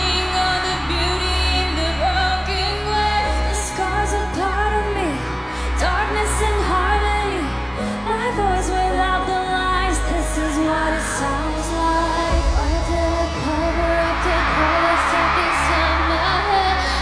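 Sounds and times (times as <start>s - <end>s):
pop music: 0.0s - 17.0s.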